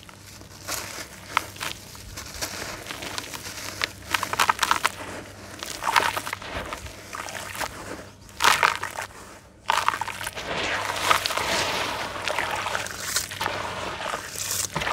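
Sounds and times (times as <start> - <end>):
crumbs sifting into a basin: 0.0 - 14.9
dirt crunching between fingers: 0.0 - 14.9.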